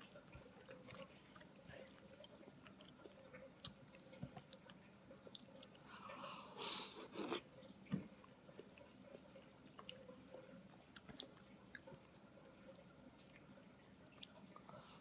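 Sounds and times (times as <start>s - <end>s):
person chewing noodles: 0.0s - 7.5s, 8.1s - 15.0s.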